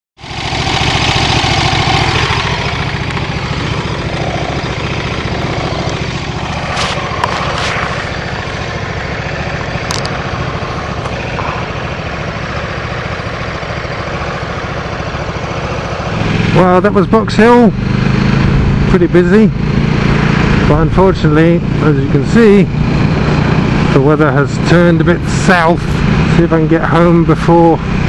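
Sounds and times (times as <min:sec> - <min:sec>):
motorcycle engine running: 0:00.2 - 0:28.0.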